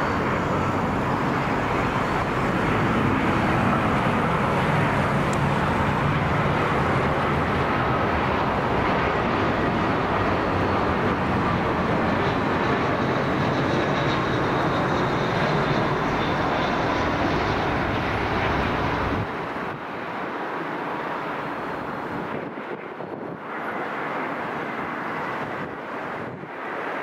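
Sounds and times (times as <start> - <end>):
jet airliner engine rush: 0.0 - 27.0.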